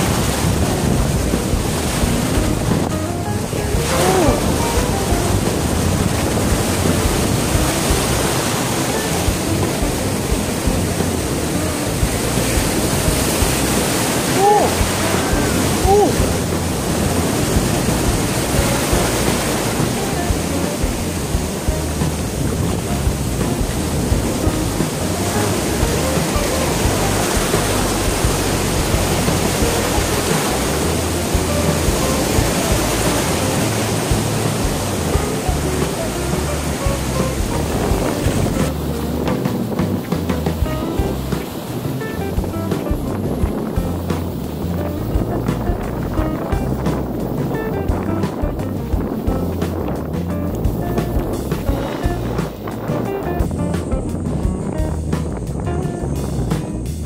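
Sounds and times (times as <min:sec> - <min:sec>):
sea surf breaking on beach: 0:00.0 - 0:57.0.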